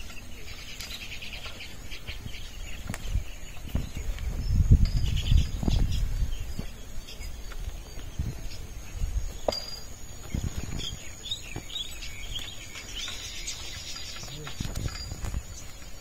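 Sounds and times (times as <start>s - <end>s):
high insect drone: 0.0s - 16.0s
small birds chirping: 0.0s - 16.0s.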